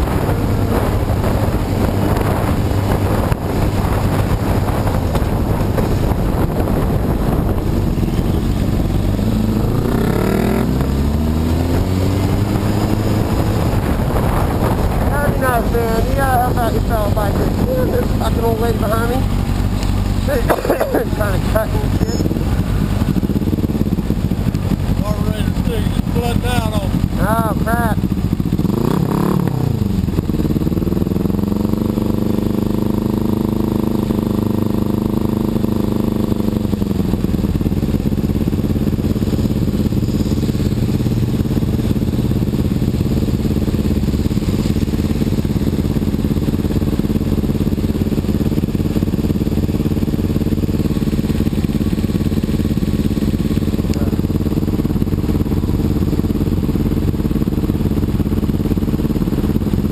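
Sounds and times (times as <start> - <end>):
motorcycle engine idling: 0.2 - 10.7, 13.8 - 59.9.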